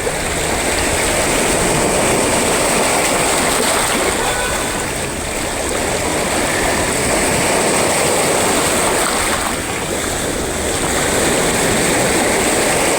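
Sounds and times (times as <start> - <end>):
sea waves breaking: 0.0 - 12.9.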